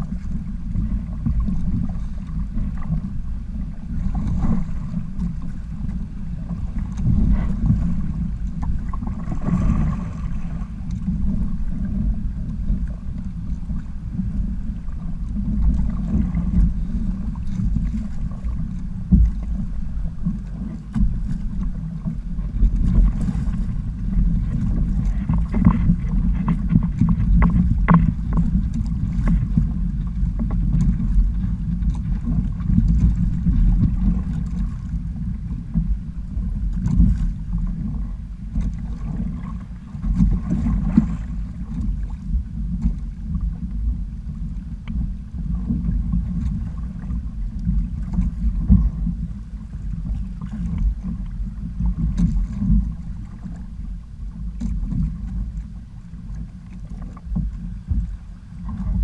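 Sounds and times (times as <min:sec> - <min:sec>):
water splashing against hull: 0:00.0 - 0:59.0
wind buffeting microphone: 0:00.0 - 0:59.0.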